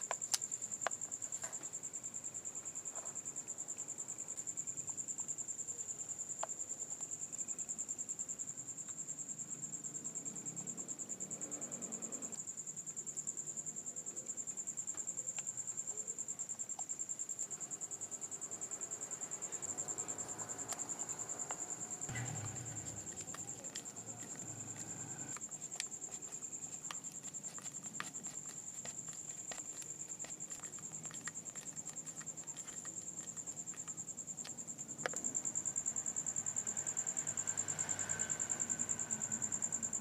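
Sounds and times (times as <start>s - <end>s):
cricket trilling: 0.0s - 40.0s.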